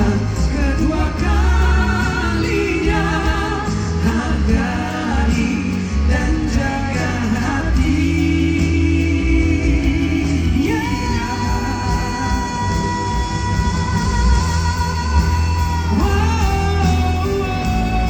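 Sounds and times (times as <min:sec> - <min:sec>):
live pop ballad by band: 0:00.0 - 0:18.0.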